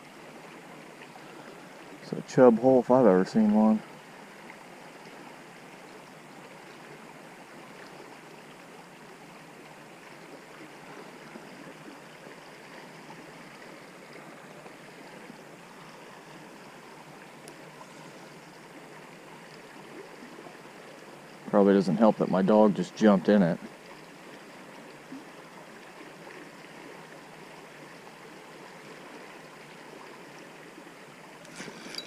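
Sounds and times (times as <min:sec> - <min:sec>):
creek water running: 0:00.0 - 0:32.0.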